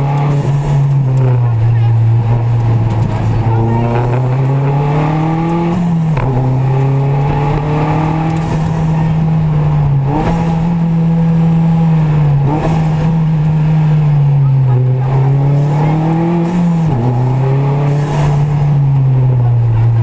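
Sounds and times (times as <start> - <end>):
car engine pulling hard: 0.0 - 20.0.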